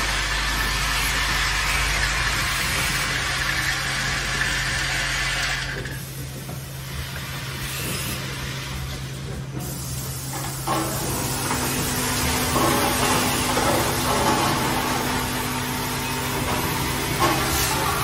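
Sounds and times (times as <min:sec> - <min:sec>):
assembly machine running: 0:00.0 - 0:18.0.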